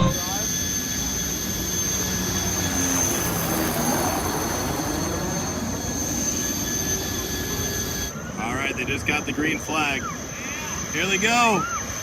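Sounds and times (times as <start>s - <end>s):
jet turbine engines whining: 0.0s - 12.0s.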